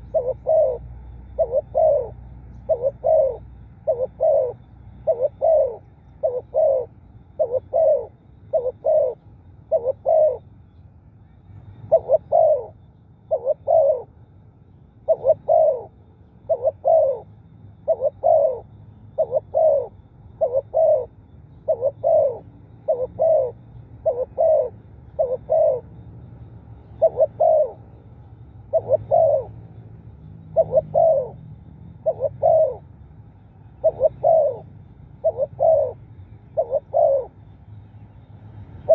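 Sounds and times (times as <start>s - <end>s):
dove cooing: 0.0s - 10.5s, 11.5s - 14.2s, 14.9s - 37.6s, 38.6s - 38.9s.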